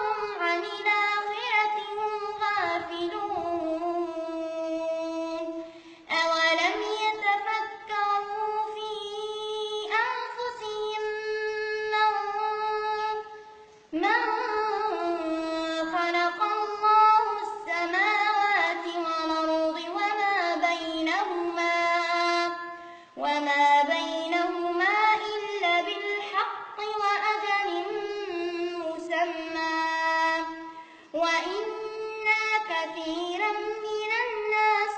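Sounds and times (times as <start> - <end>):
child reciting melodically: 0.0 - 34.9.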